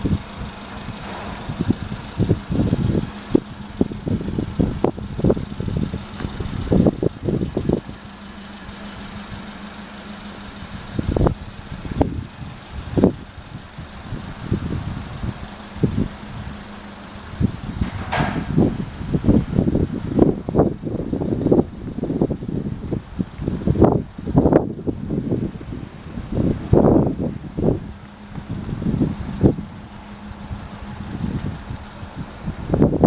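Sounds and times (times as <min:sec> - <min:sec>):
low thumps and rumbles: 0:00.0 - 0:33.0
small engine idling: 0:00.0 - 0:33.0.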